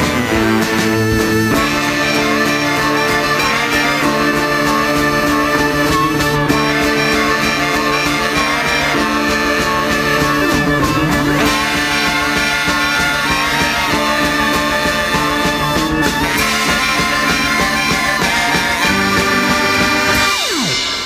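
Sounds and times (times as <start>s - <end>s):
live band instrumental music: 0.0s - 21.0s.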